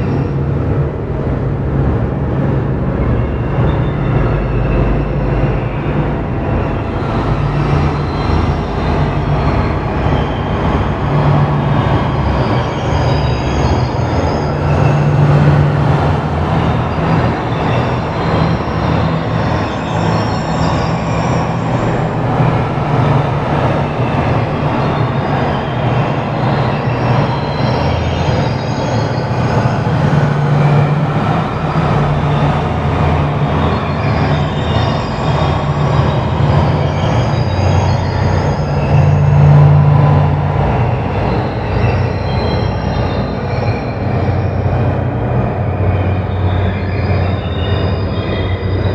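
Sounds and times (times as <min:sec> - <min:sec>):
dense rumbling noise: 0:00.0 - 0:48.9
low hum: 0:00.0 - 0:48.9.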